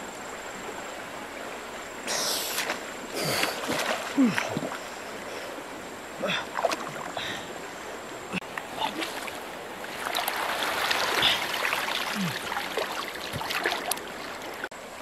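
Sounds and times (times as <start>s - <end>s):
water splashing and sloshing: 0.0s - 14.8s
river current rushing: 0.0s - 15.0s.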